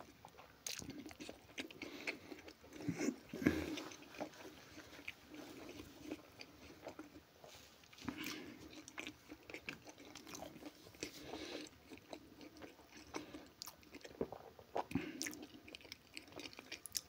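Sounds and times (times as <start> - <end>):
man chewing food: 0.0 - 17.0.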